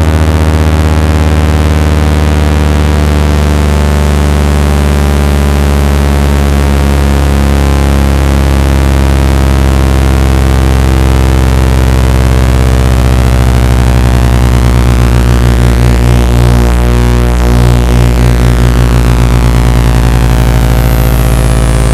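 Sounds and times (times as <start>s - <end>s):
deep electronic hum with pulsing: 0.0s - 21.9s.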